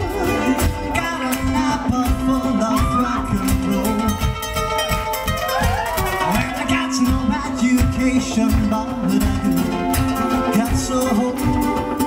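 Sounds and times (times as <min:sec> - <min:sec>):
bass line: 0:00.0 - 0:12.0
steady drum beat: 0:00.0 - 0:12.0
ukuleles strumming chords: 0:00.0 - 0:12.0.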